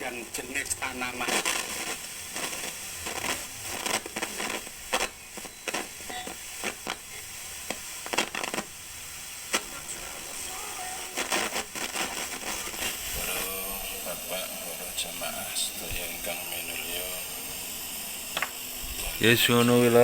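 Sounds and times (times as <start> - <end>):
radio static hiss with crackles: 0.0 - 20.0.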